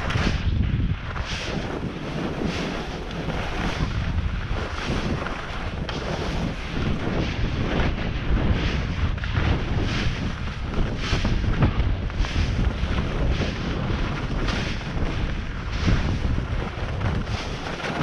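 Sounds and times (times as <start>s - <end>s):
skis scraping on hard snow: 0.0s - 18.0s
wind rushing over microphone: 0.0s - 18.0s.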